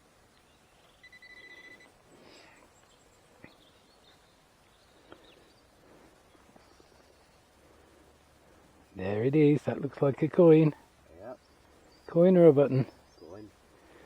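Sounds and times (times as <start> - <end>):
faint bird chirps: 0.0 - 9.3, 10.6 - 14.0.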